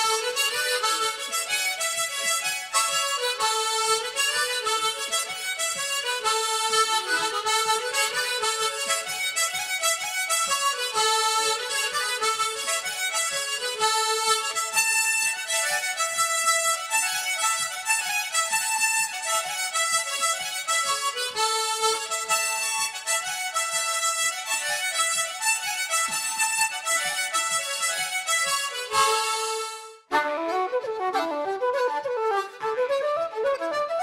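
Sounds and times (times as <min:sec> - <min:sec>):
harmonica playing a tune: 0:00.0 - 0:34.0.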